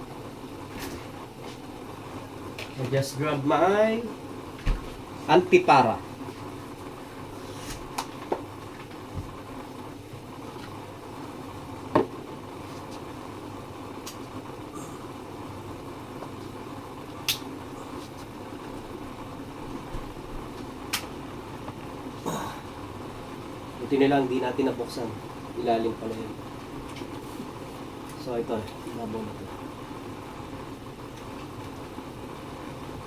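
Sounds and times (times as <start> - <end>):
room hum: 0.0 - 33.0.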